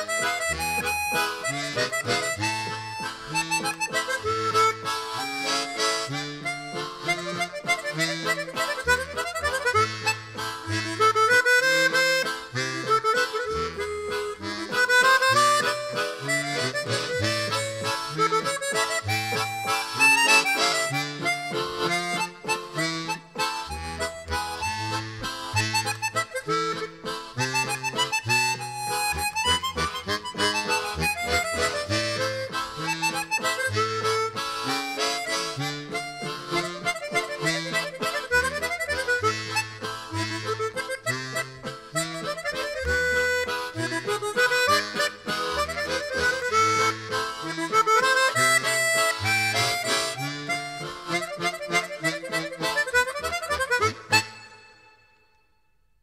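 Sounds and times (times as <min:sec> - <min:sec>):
instrumental music: 0:00.0 - 0:56.0.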